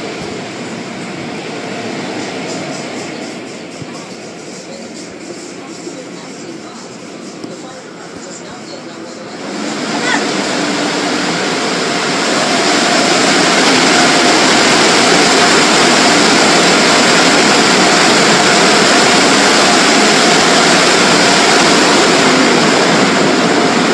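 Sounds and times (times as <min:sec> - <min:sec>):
car wash rushing noise: 0:00.0 - 0:23.9.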